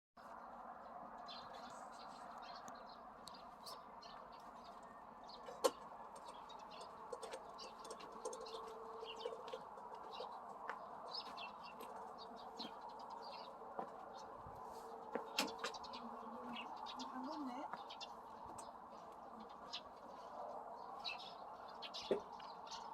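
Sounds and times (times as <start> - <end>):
small birds chirping: 0.3 - 22.9.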